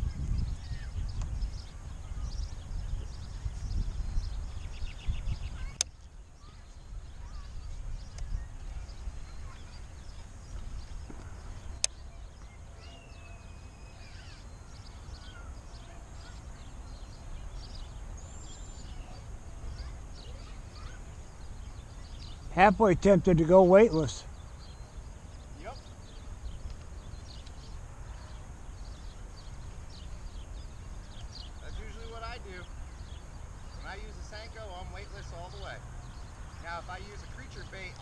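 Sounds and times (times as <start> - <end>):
long bird call: 0.0 - 38.0
small birds chirping: 0.0 - 38.0
wind rumbling on microphone: 0.0 - 38.0.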